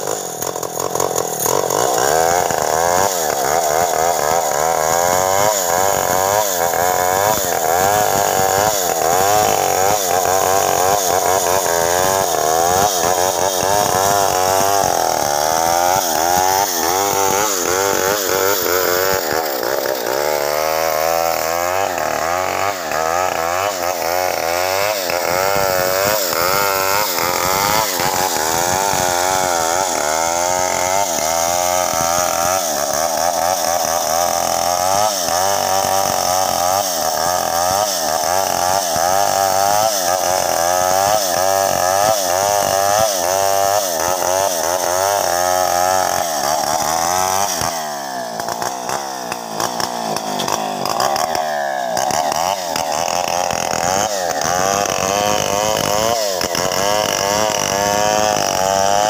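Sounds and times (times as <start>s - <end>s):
chainsaw cutting a log: 0.0s - 59.0s.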